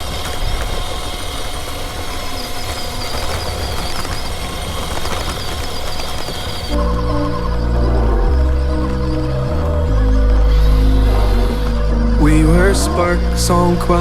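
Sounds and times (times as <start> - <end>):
engine rumble with whine: 0.0 - 14.0.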